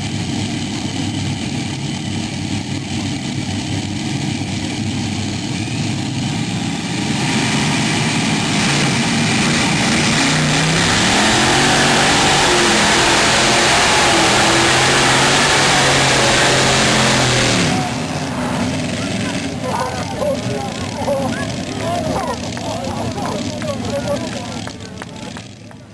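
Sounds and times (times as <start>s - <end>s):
tractor engine revving: 0.0s - 25.9s.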